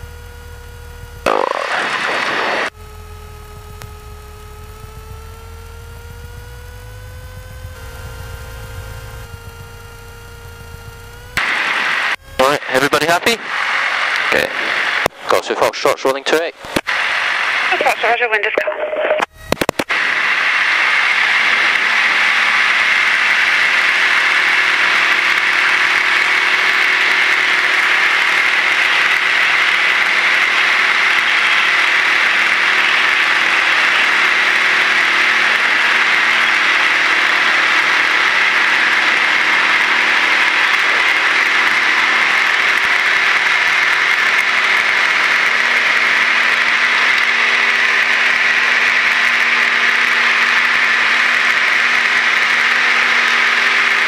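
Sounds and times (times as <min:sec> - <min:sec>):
airplane engine droning: 0:00.0 - 0:54.0.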